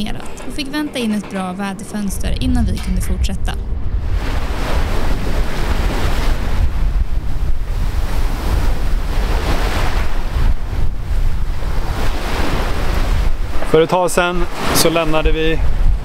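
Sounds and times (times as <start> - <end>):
sea waves rushing: 0.0 - 16.0
wind buffeting microphone: 0.0 - 16.0.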